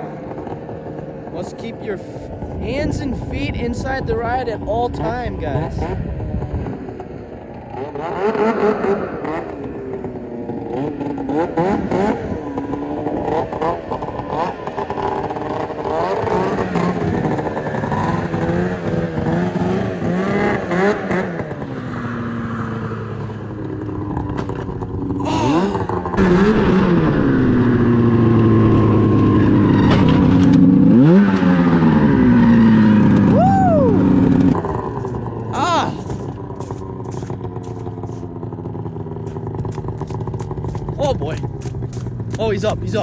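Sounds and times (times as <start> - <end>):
snowmobile engine revving: 0.0 - 43.0.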